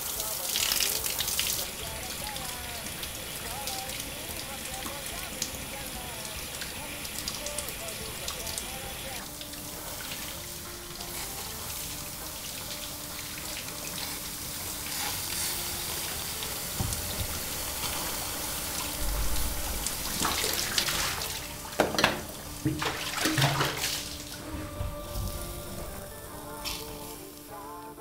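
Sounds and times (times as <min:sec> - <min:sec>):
shower head spraying water: 0:00.0 - 0:27.9.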